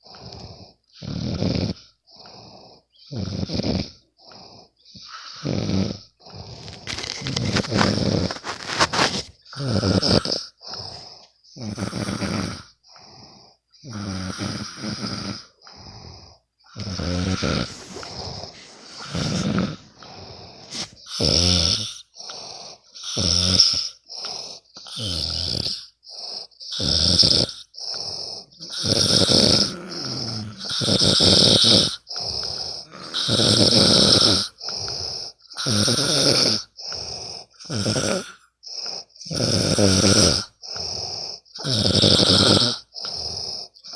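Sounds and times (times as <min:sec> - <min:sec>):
person snoring: 0:00.0 - 0:43.9.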